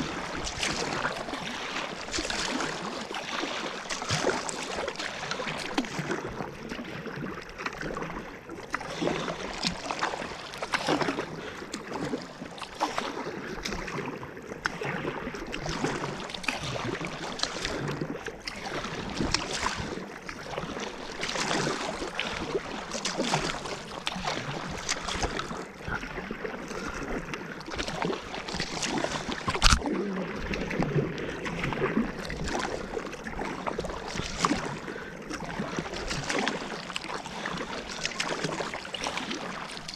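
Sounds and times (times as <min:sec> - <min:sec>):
paddle strokes splashing water: 0:00.0 - 0:39.9
water noise around hull: 0:00.0 - 0:39.9.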